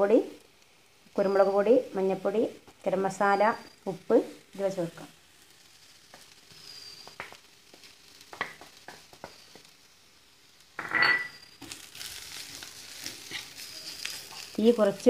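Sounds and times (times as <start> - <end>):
onions frying in oil: 0.0 - 15.0.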